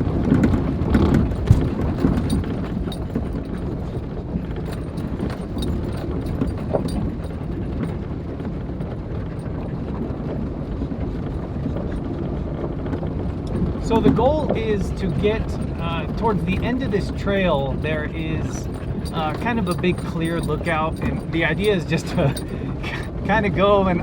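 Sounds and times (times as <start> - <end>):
vehicle engine rumble: 0.0 - 24.0
knocks and rattles over rocks: 0.1 - 23.1.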